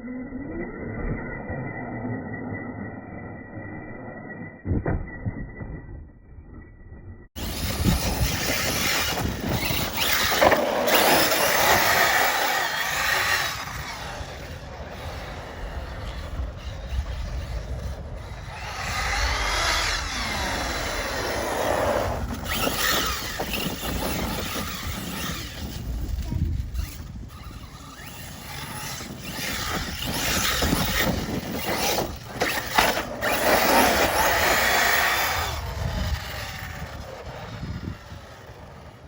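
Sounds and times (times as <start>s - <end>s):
tyre and dirt noise: 0.3s - 39.0s
electric motor whining: 7.4s - 39.0s.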